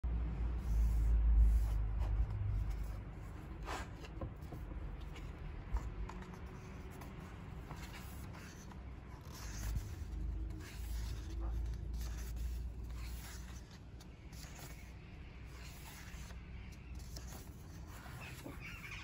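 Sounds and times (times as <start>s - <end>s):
book pages rustling: 0.6s - 19.0s.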